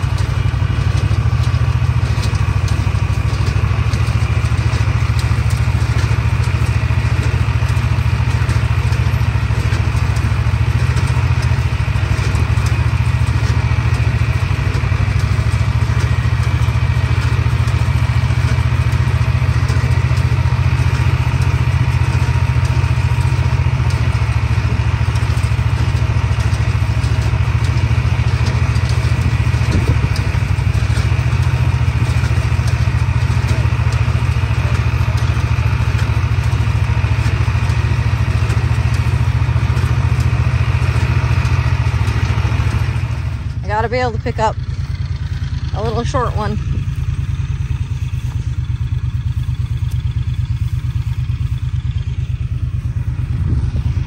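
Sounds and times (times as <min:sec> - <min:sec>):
baler mechanical clatter: 0:00.0 - 0:54.0
tractor engine drone: 0:00.0 - 0:54.0.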